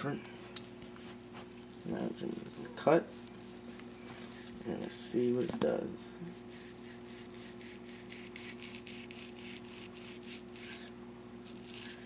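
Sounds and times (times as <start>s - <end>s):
low steady hum: 0.0s - 12.0s
knife sawing through meat: 1.0s - 5.1s, 6.3s - 12.0s.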